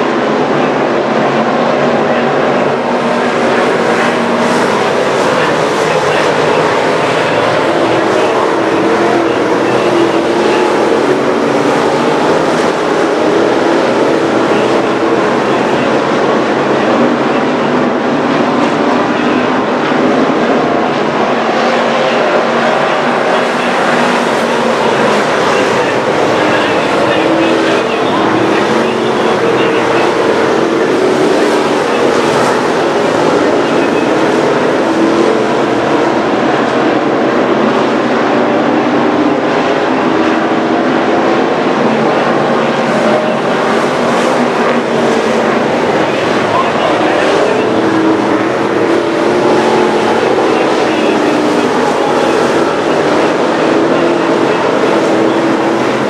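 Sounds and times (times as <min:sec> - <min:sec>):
race car engines running: 0:00.0 - 0:56.0.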